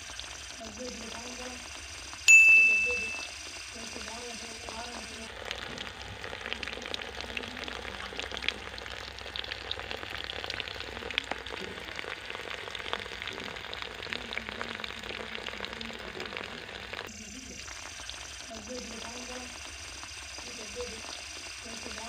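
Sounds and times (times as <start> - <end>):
small water pump running: 0.0 - 22.0.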